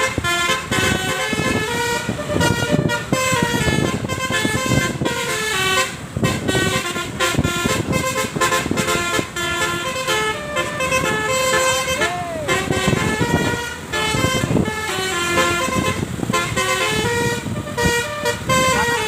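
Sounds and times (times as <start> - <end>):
bus multi-tone horn tune: 0.0 - 19.0
traffic rumble: 0.0 - 19.0.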